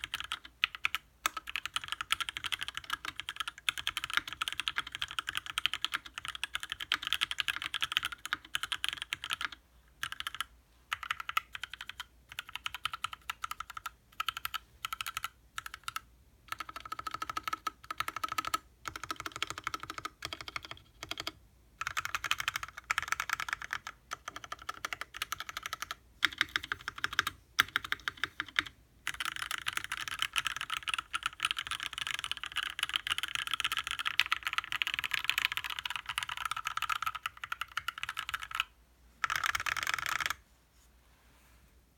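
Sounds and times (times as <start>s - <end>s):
mechanical keyboard typing: 0.0s - 40.4s.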